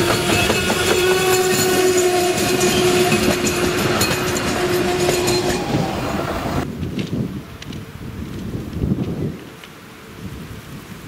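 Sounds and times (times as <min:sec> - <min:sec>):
wheels clicking over rail joints: 0:00.0 - 0:09.8
train engine hum: 0:00.0 - 0:11.0.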